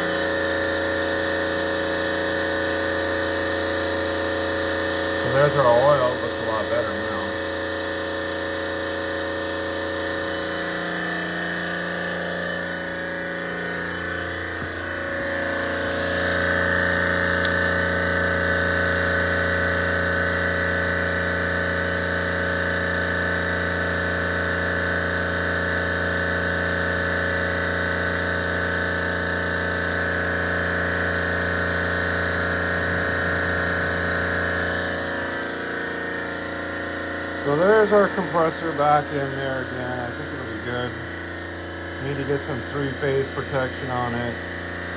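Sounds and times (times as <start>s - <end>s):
refrigeration compressor humming: 0.0s - 44.9s.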